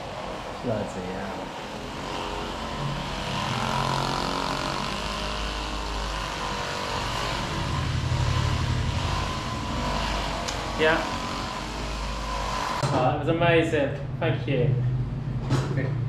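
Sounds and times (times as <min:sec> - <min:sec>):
electric massager buzzing: 0:00.0 - 0:13.1.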